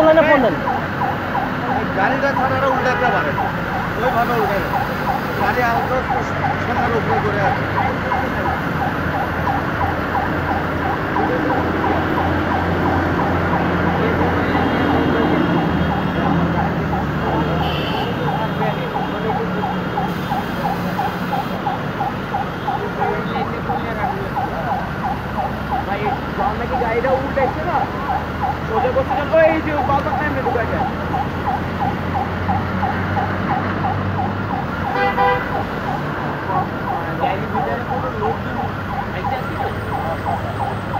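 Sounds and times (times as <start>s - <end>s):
street and crowd noise: 0.0s - 40.9s
warbling siren alarm: 0.0s - 40.9s.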